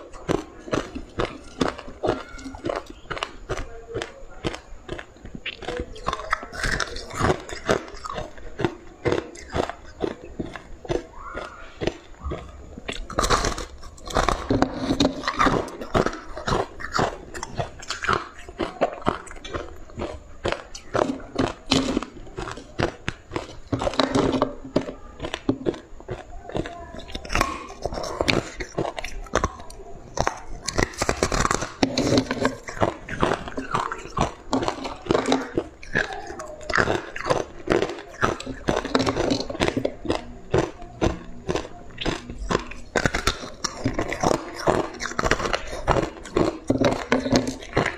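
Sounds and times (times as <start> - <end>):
crunching frozen ice: 0.0 - 47.9.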